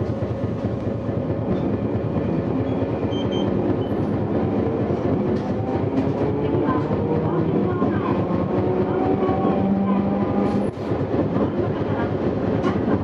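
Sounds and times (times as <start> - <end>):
streetcar wheels and motors rumbling: 0.0 - 13.0.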